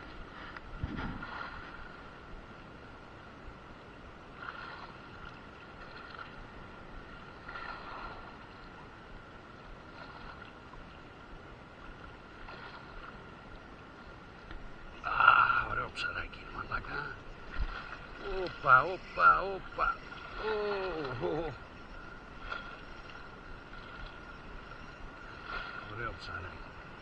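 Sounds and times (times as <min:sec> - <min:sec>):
soft washes of water: 0:00.0 - 0:02.7, 0:03.3 - 0:27.0
faint high whine: 0:00.0 - 0:27.0
wind and water noise: 0:00.0 - 0:27.0.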